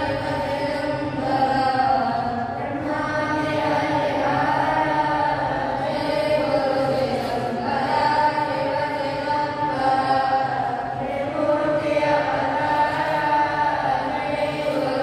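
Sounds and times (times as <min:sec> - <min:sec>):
boys chanting in unison: 0:00.0 - 0:15.0.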